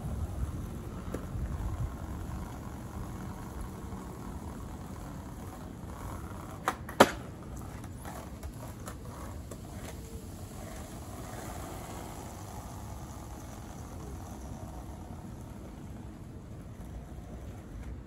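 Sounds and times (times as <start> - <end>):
low rumble of wind: 0.0 - 18.0
skateboard wheels rolling: 0.0 - 18.0
skateboard clacking on pavement: 0.1 - 18.0.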